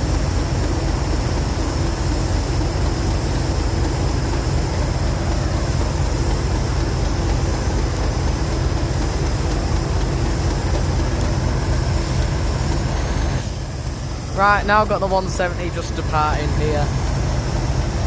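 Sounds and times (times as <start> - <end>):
diesel train engine idling: 0.0 - 18.0.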